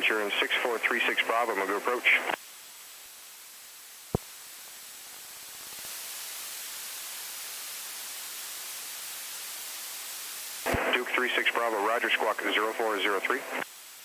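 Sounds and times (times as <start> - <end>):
aircraft radio hiss: 0.0 - 14.0.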